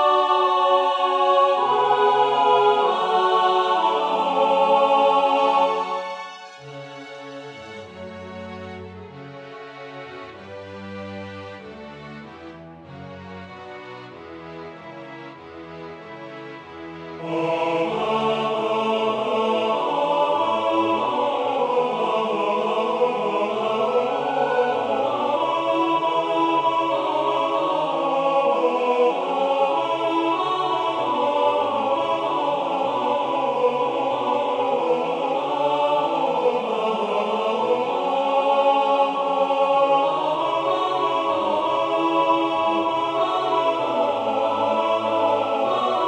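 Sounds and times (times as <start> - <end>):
choir singing a hymn: 0.0 - 9.2, 10.1 - 46.0.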